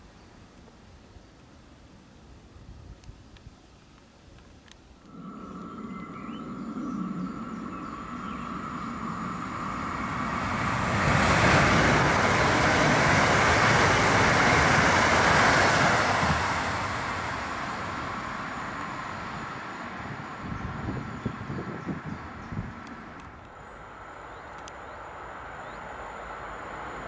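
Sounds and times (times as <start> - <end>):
electric train passing with whine: 5.0 - 27.0.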